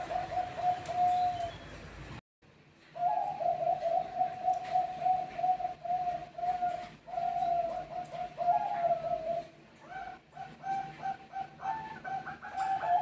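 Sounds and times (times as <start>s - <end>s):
dove cooing: 0.0s - 1.6s, 3.0s - 13.0s.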